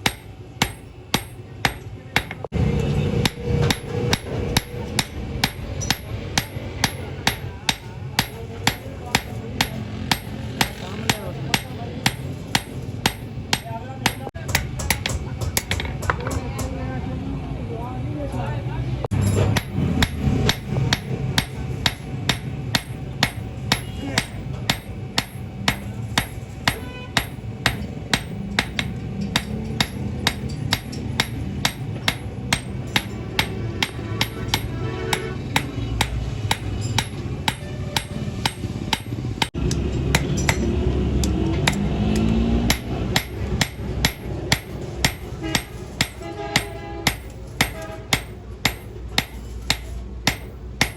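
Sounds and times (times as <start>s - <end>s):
hammer striking steel on anvil: 0.0s - 16.4s, 19.1s - 50.9s.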